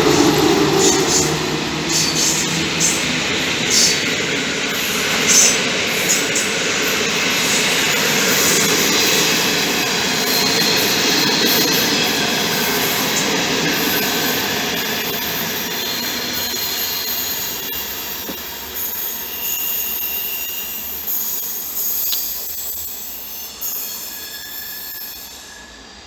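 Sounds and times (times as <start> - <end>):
high wheel squeals: 0.0 - 26.0
train wheels rolling on rails: 0.0 - 26.0.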